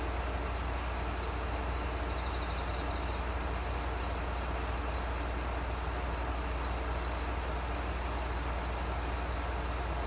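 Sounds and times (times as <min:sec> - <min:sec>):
diesel railcar engine idling: 0:00.0 - 0:10.0.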